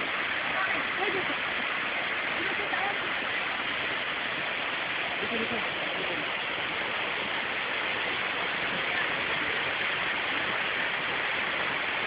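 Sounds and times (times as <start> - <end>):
waterfall pouring and splashing: 0.0 - 12.0.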